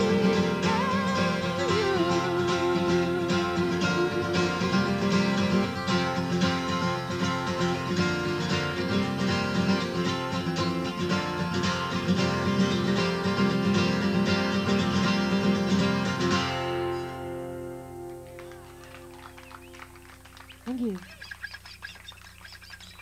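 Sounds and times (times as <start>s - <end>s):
acoustic guitar strummed: 0.0s - 20.0s.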